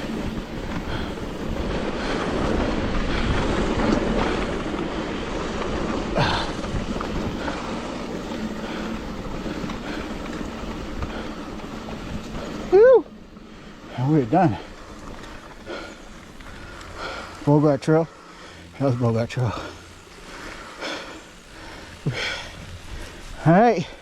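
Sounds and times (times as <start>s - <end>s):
wind rushing over microphone: 0.0s - 23.4s
tyres rolling over dirt trail: 0.0s - 24.0s.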